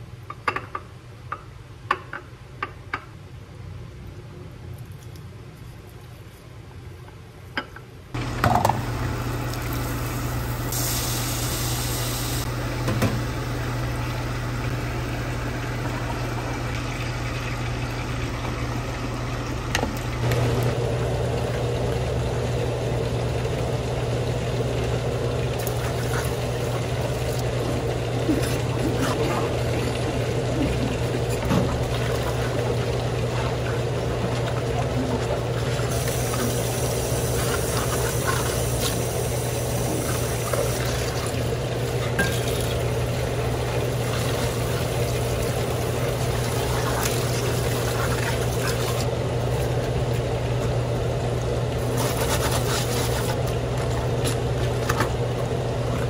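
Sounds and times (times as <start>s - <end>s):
steady low hum: 8.1s - 56.0s.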